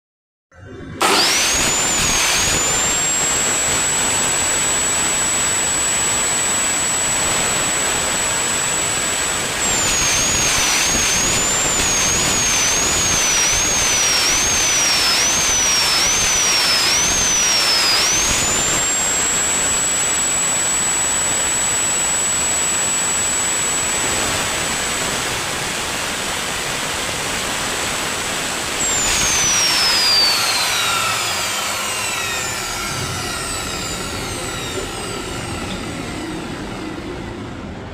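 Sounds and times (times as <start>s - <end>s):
loud grinding: 0.8s - 37.5s
electric motor whining: 0.9s - 37.8s.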